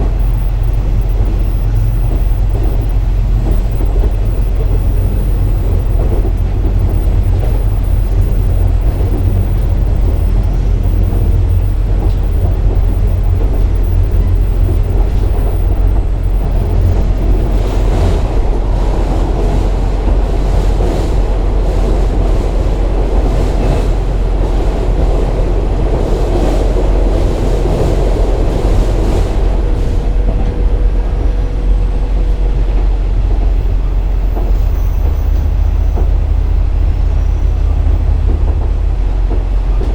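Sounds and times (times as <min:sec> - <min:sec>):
diesel engine drone: 0:00.0 - 0:39.9
wheel and rail noise: 0:00.0 - 0:39.9.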